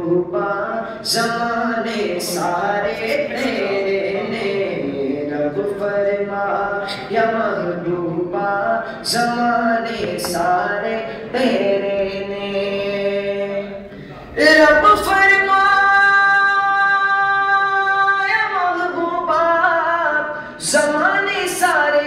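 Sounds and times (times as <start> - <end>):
man chanting into a microphone: 0.0 - 22.0.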